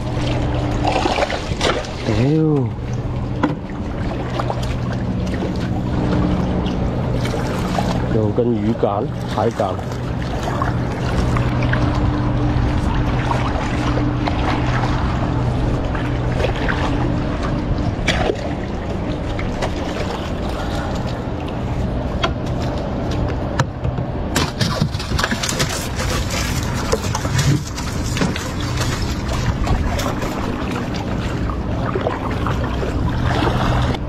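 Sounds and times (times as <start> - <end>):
small boat motor humming: 0.0 - 34.0
water washing around boat: 0.0 - 34.0.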